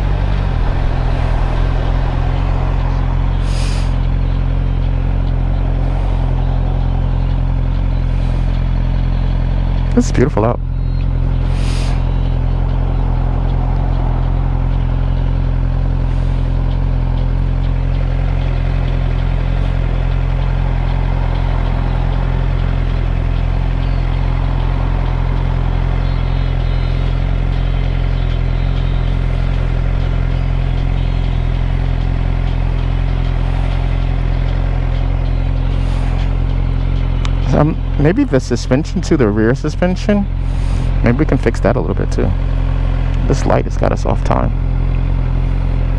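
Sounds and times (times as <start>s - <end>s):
motorcycle engine running steadily: 0.0s - 45.9s.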